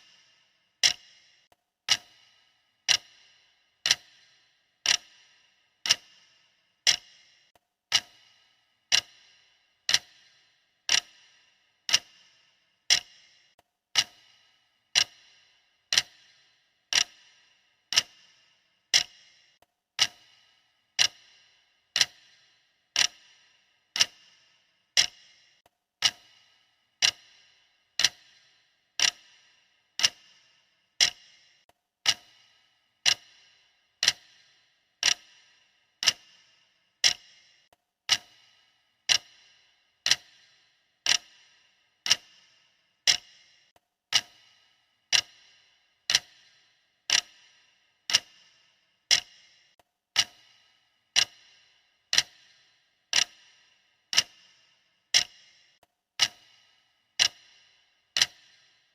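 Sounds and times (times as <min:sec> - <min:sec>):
clock ticking: 0:00.0 - 0:58.9.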